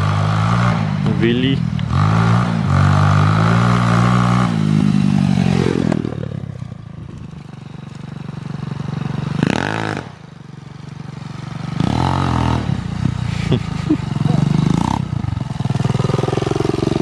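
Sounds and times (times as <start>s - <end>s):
pit bike engine running: 0.0s - 17.0s.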